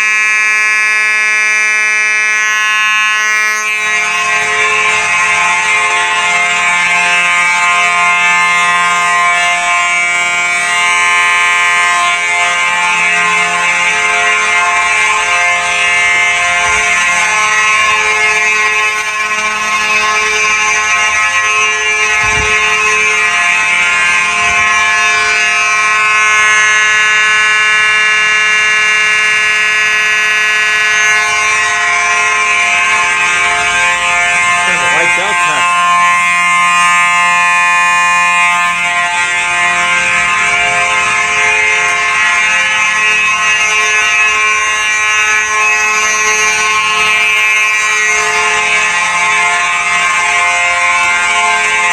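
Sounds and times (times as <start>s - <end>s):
fire alarm horn sounding: 0.0s - 51.9s.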